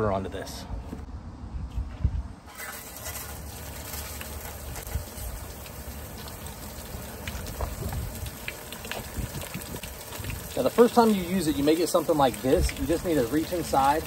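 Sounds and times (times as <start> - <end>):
hose water spraying into metal tub: 2.5 - 14.0.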